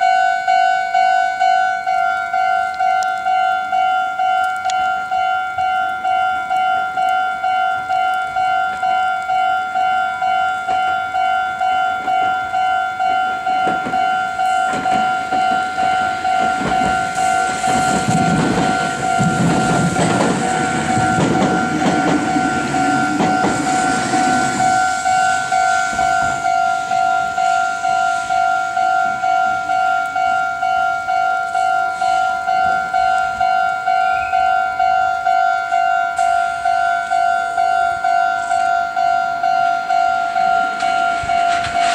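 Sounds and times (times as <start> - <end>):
level-crossing warning bell: 0.0 - 41.9
train rumble and wheel clatter: 0.0 - 41.9.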